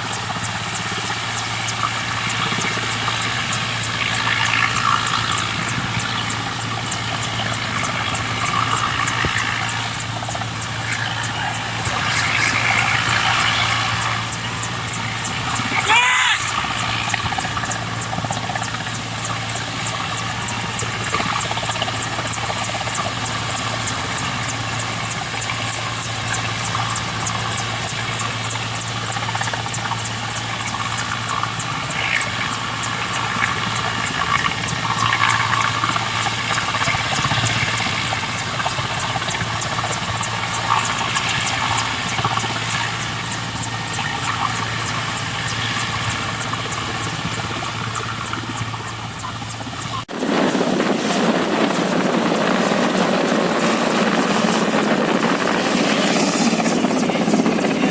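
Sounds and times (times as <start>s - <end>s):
helicopter engine drone: 0.0s - 57.9s
helicopter rotor beating: 0.0s - 57.9s.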